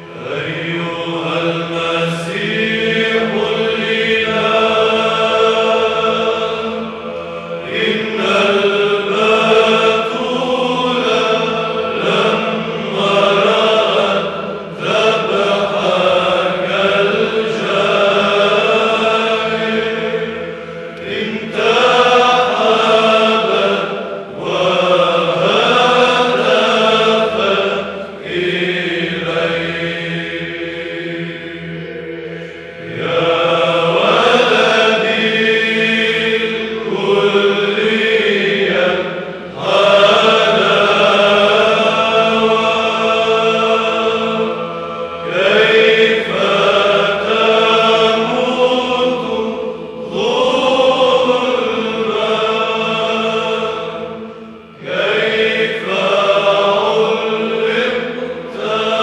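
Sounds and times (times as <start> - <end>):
choir chanting a hymn: 0.0 - 59.0
held drone note: 0.0 - 59.0.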